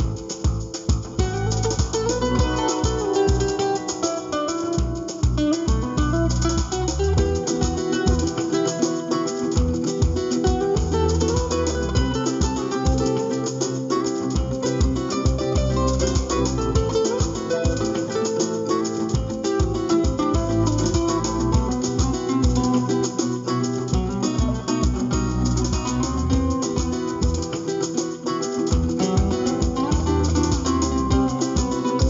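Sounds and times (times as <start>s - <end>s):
flamenco-style acoustic guitar: 0.0s - 32.0s.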